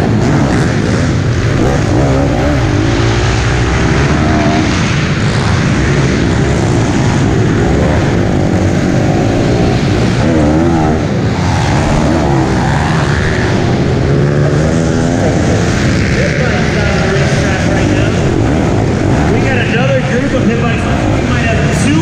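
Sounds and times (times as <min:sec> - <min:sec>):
other pit bike engines: 0:00.0 - 0:22.0
pit bike engine revving: 0:00.0 - 0:22.0.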